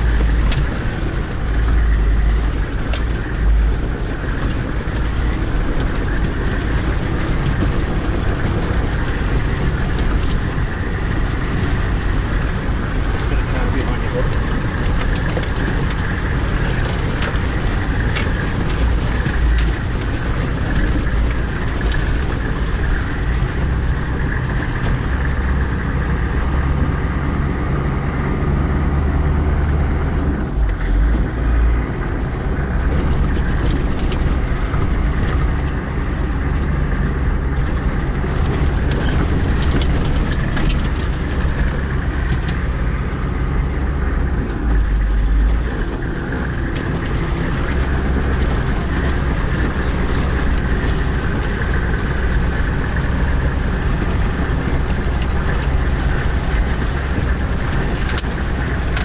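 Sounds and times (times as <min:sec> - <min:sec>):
body knocks and rattles: 0:00.0 - 0:27.1, 0:29.2 - 0:59.0
vehicle engine rumble from cabin: 0:00.0 - 0:59.0.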